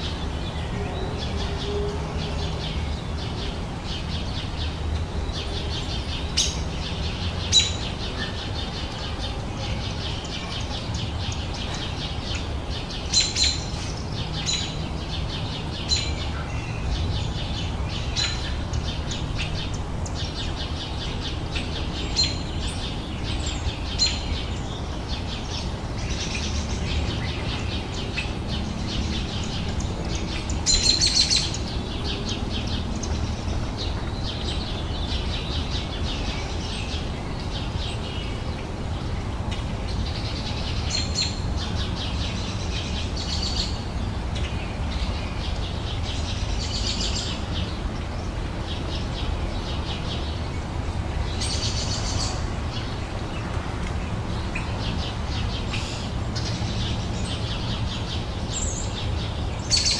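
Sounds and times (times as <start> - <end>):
small birds chirping chorus: 0.0 - 59.9.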